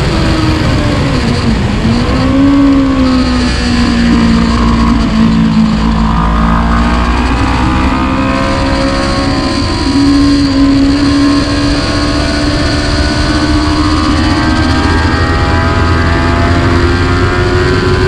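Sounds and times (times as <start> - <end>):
motorcycle engine running hard: 0.0 - 18.0
wind rushing: 0.0 - 18.0.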